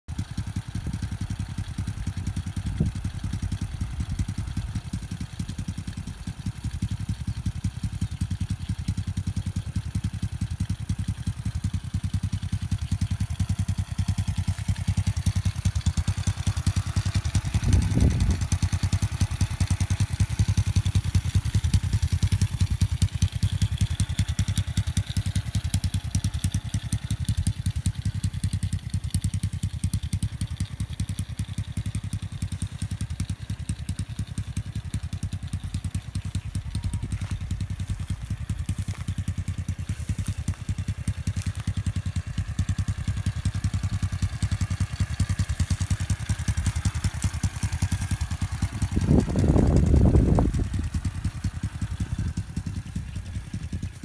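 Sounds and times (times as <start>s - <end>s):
small motorcycle engine idling: 0.0s - 54.0s.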